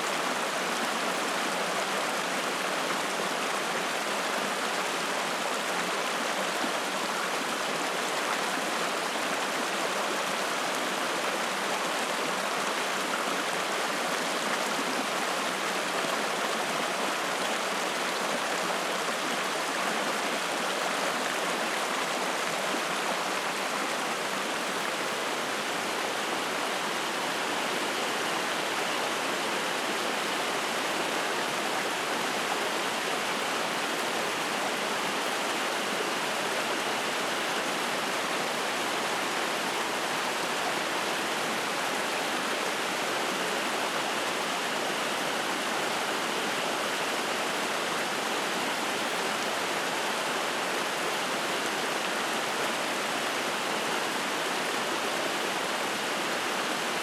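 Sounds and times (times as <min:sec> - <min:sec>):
mountain stream flowing: 0:00.0 - 0:57.0.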